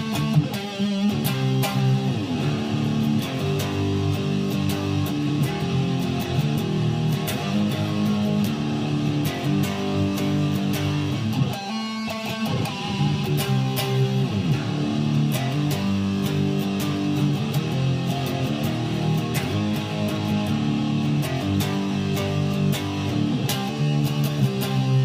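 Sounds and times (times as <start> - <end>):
guitar strumming chords: 0.0 - 25.0.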